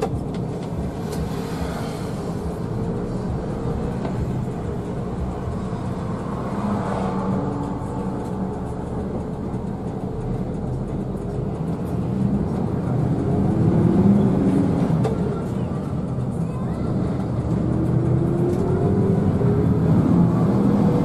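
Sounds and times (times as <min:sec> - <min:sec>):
bus diesel engine running: 0:00.0 - 0:21.0
road and tyre noise: 0:00.0 - 0:21.0.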